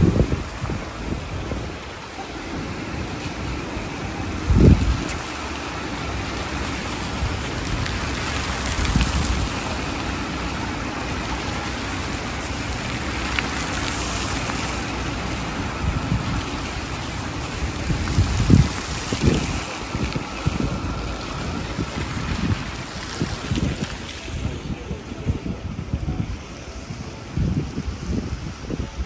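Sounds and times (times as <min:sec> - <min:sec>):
fountain water splashing: 0:00.0 - 0:29.0
wind buffeting microphone: 0:00.0 - 0:29.0.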